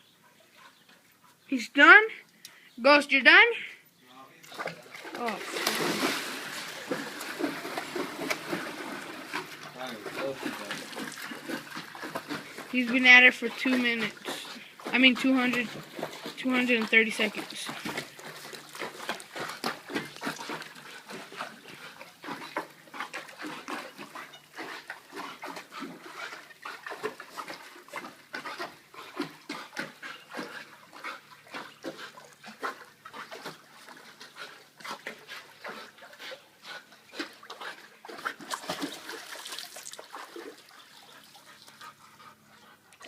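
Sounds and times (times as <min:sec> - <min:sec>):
dog breathing hard while swimming: 0:05.7 - 0:43.0.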